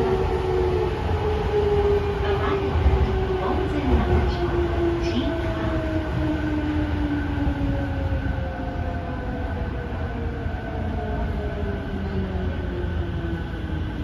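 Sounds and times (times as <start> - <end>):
subway train running rumble: 0.0 - 14.0.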